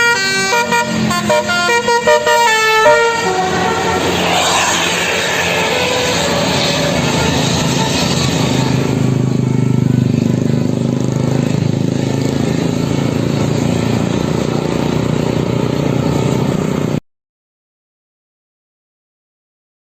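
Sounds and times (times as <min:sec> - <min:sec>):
road noise: 0:00.0 - 0:17.0
vehicle engine droning: 0:00.0 - 0:17.0.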